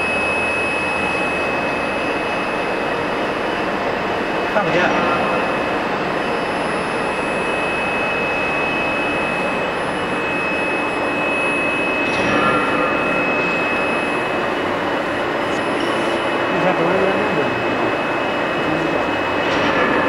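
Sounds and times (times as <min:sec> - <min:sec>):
lathe machine whine: 0:00.0 - 0:20.0.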